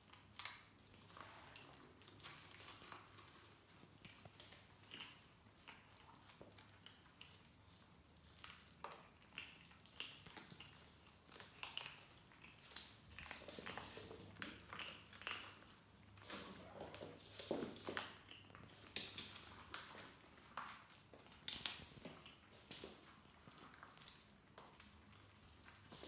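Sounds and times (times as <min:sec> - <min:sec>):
kittens crunching dry kibble: 0:00.0 - 0:26.0.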